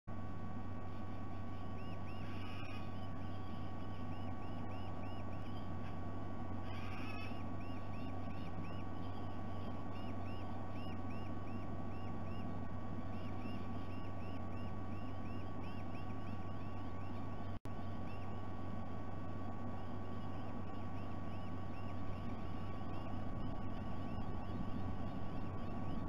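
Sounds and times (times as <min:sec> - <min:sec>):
low electrical hum: 0:00.1 - 0:26.0.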